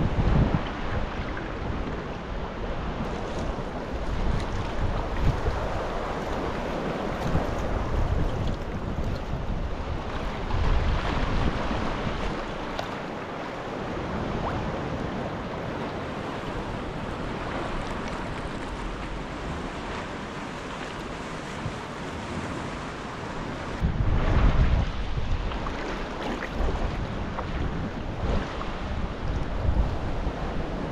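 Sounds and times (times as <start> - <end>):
water lapping around kayak: 0.0 - 30.9
waves breaking against cliffs: 0.0 - 30.9
wind buffeting microphone: 0.0 - 30.9.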